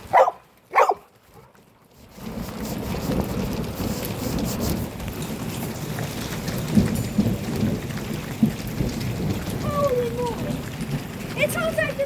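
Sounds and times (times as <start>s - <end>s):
rain falling: 0.0s - 12.0s
thunder rumbling: 2.1s - 12.0s
thunder clap: 2.2s - 12.0s.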